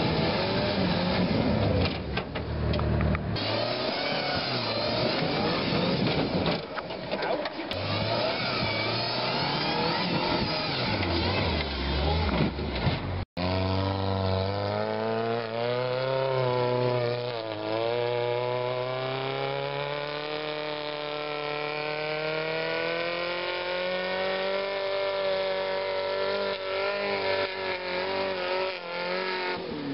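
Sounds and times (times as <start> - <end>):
buggy engine buzzing drone: 0.0 - 29.9.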